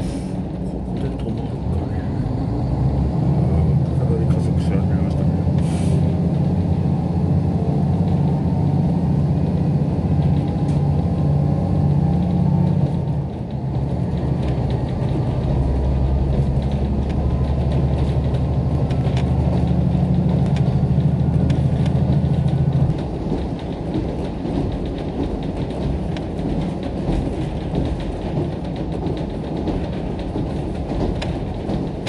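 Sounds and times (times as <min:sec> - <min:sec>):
railcar engine drone: 0:00.0 - 0:32.0.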